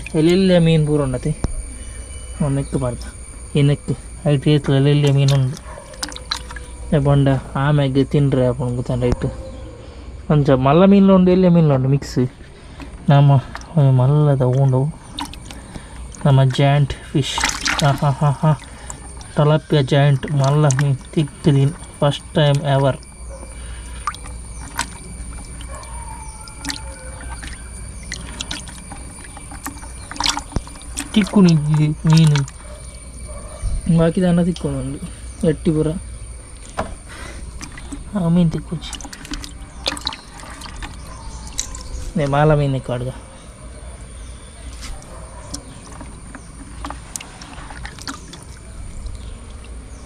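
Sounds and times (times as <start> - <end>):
water splashing and trickling: 0.0 - 7.6, 12.2 - 43.4, 44.2 - 50.0.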